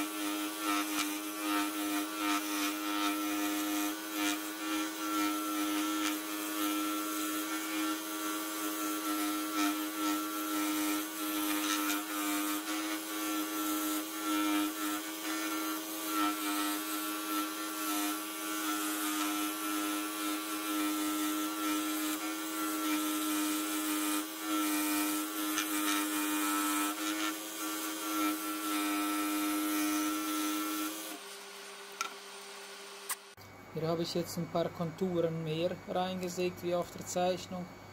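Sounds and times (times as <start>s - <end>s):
saw blade rasping through wood: 0.0s - 31.3s.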